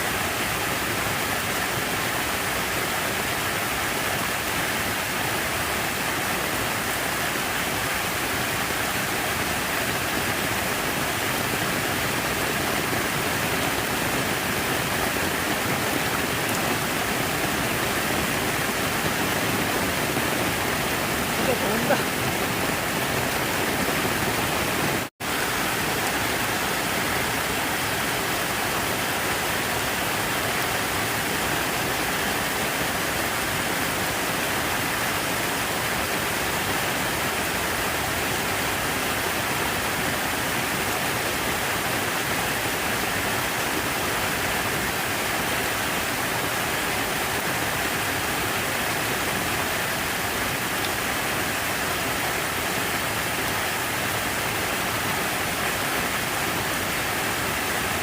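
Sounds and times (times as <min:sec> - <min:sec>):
water feature rushing: 0:00.0 - 0:58.0.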